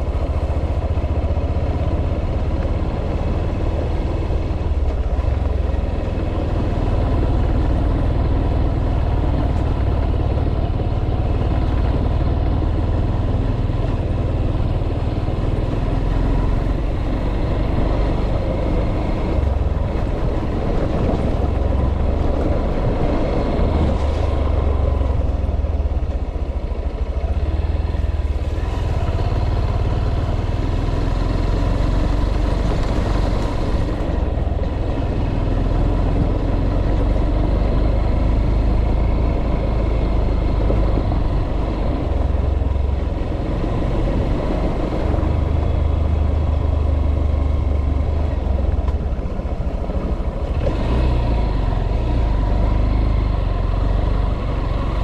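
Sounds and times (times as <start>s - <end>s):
vehicle running low rumble: 0.0s - 55.0s.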